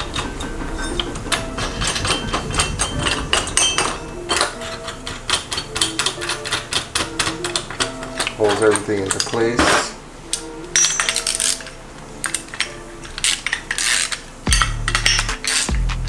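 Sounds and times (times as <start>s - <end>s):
metallic clicking of nuts tightening: 0.0s - 15.8s.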